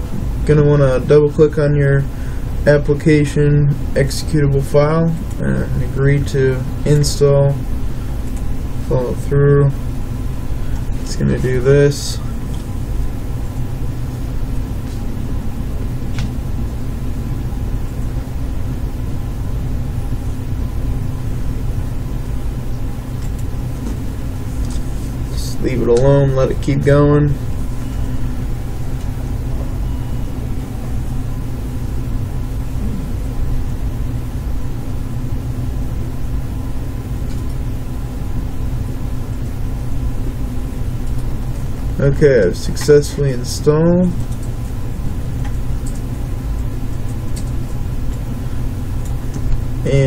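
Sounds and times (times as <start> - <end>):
steady low rumble: 0.0 - 50.0.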